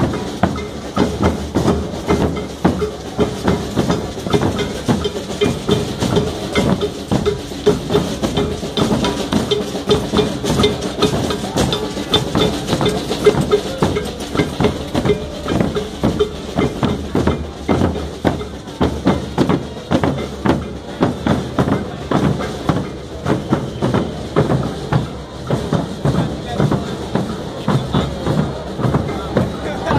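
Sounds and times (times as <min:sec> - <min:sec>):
parade drums playing: 0:00.0 - 0:29.9.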